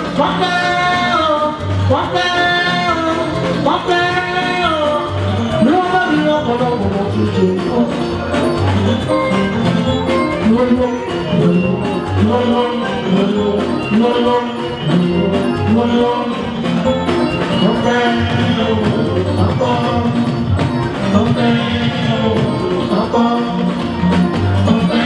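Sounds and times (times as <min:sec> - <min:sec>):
drums and percussion: 0:00.0 - 0:25.0
person singing: 0:00.0 - 0:25.0.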